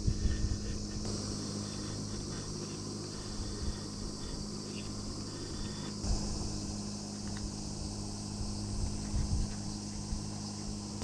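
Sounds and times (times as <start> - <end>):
high-pitched insect chorus: 0.0 - 11.0
low steady hum: 0.0 - 11.0.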